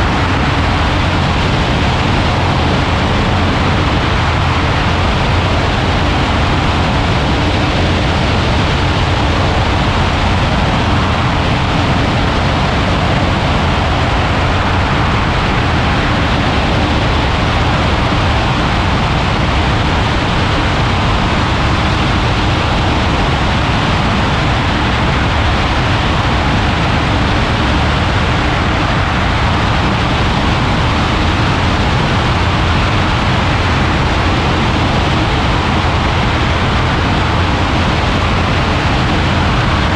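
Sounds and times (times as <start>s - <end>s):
aircraft engine drone: 0.0s - 39.9s
wind over microphone: 0.0s - 39.9s.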